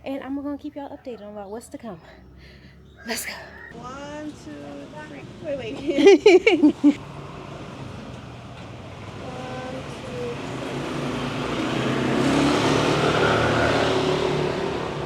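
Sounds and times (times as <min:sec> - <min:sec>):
motor vehicle passing by: 0:00.0 - 0:15.0.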